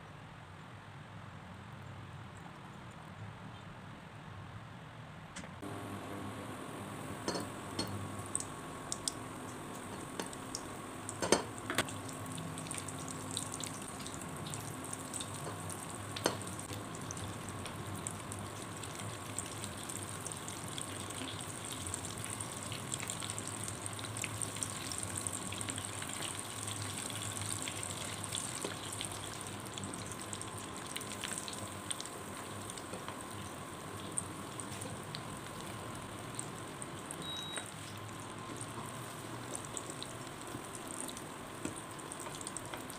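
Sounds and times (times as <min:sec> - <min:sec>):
oil sizzling and crackling: 0:05.6 - 0:42.9.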